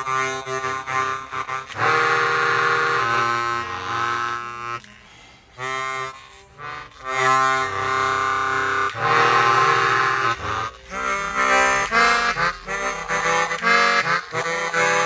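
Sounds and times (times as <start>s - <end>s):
bass harmonica low notes: 0.0s - 15.0s.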